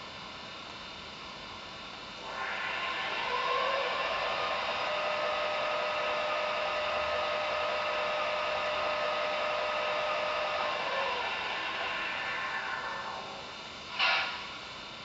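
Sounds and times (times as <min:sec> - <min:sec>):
blower hiss and hum: 0:00.0 - 0:15.0
steady whine: 0:00.0 - 0:15.0.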